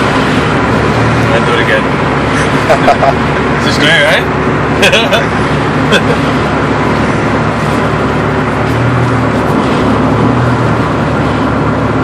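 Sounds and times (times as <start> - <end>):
car engine running: 0.0 - 12.0
road noise inside car: 0.0 - 12.0.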